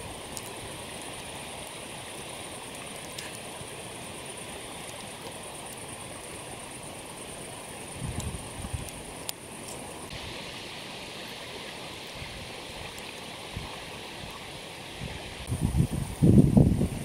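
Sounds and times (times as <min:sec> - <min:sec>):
campfire crackles: 0:00.0 - 0:17.0
flowing river: 0:00.0 - 0:17.0.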